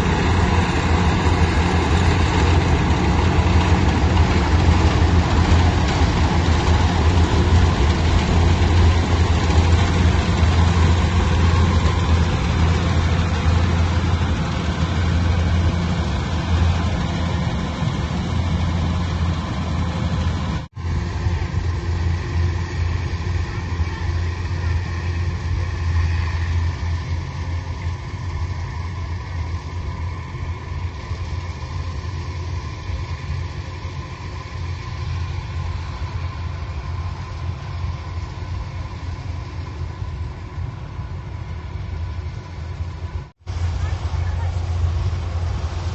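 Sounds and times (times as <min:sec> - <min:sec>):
farm machinery engine humming: 0:00.0 - 0:45.9.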